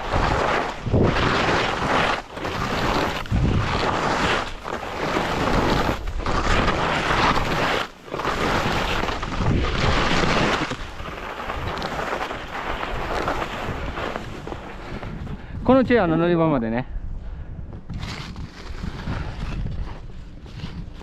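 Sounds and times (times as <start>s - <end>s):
wind rushing over microphone: 0.0s - 7.7s, 8.3s - 21.0s
skis scraping snow: 0.0s - 16.6s, 17.9s - 21.0s.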